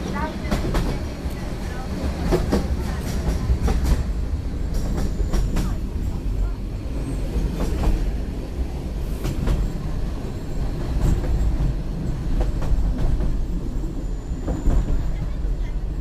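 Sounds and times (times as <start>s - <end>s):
train carriage rumbling on track: 0.0s - 16.0s.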